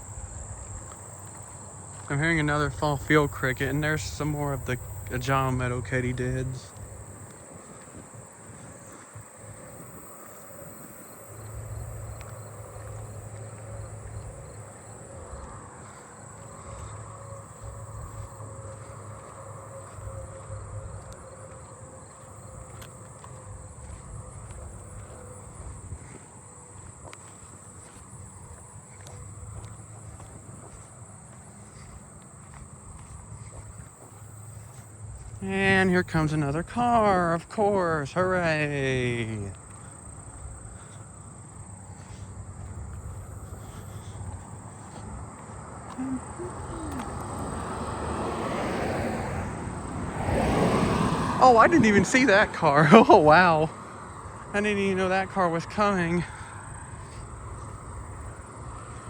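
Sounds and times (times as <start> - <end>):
crickets and katydids buzzing: 0.0 - 59.0
insect chirps: 0.0 - 59.0.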